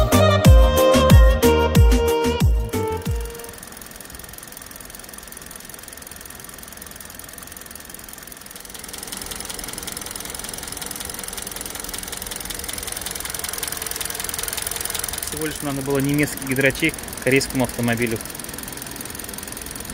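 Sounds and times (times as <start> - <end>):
car engine idling: 2.4 - 19.9.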